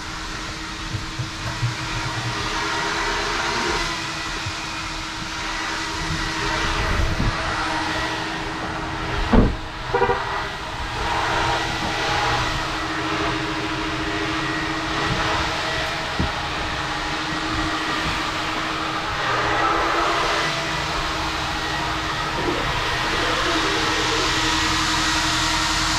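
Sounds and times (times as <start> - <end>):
car wash machinery rushing: 0.0 - 25.9
low hum: 0.0 - 25.9.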